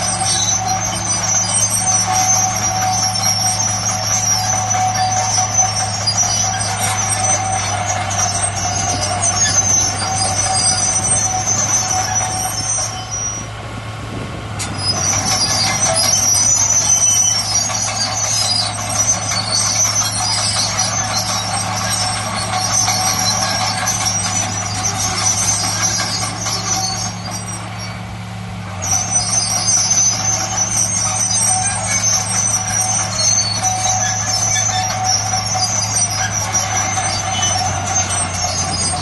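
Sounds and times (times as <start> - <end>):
diesel engine running: 0.0 - 39.0
high-pitched machinery squealing: 0.0 - 39.0.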